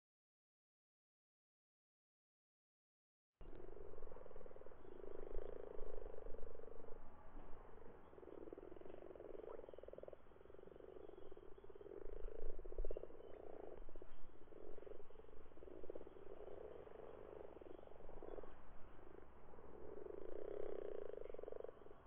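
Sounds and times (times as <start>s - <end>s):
frogs croaking: 3.4s - 22.0s.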